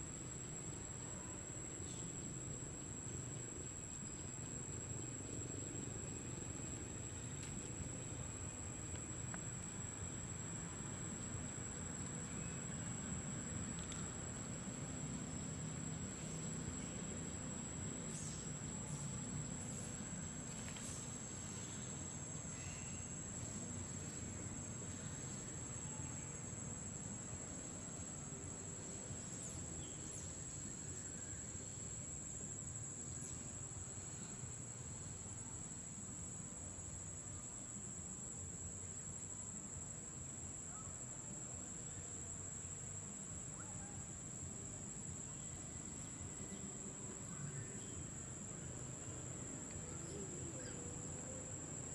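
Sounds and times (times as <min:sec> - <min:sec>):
low background noise: 0:00.0 - 0:51.9.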